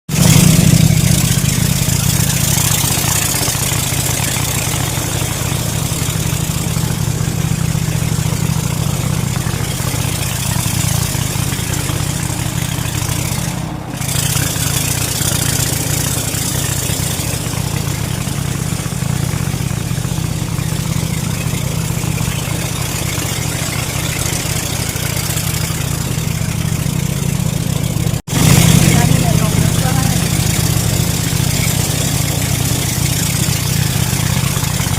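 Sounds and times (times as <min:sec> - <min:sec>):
speedboat engine droning: 0:00.1 - 0:34.9.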